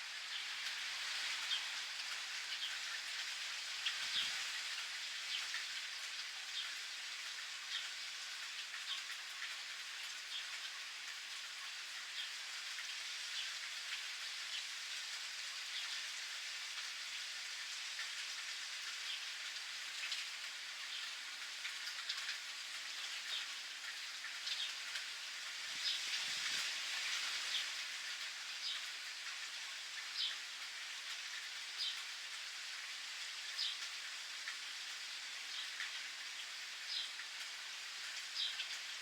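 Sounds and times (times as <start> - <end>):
raindrops ticking and pattering: 0.0 - 39.0
steady rain falling: 0.0 - 39.0.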